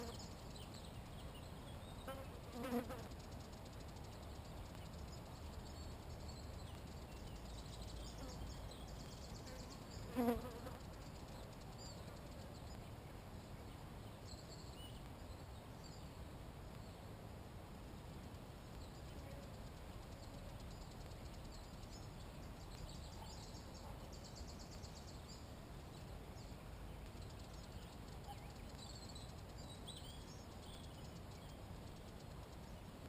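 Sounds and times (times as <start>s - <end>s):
insects buzzing: 0.0s - 33.0s.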